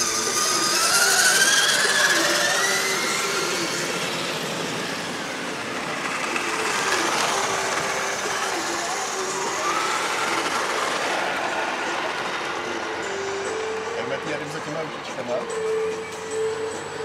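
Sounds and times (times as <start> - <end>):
toy truck electric motors whining: 0.0 - 17.0.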